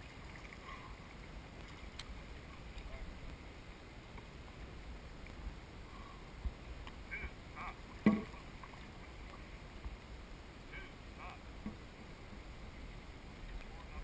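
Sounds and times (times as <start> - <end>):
paddles stroking through water: 0.0 - 14.0
wind rumbling on microphone: 0.0 - 14.0.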